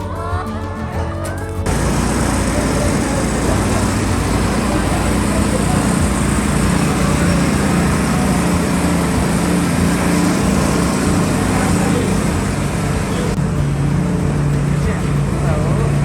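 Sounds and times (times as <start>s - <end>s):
motor humming: 1.6s - 16.0s
even hiss: 1.7s - 16.0s.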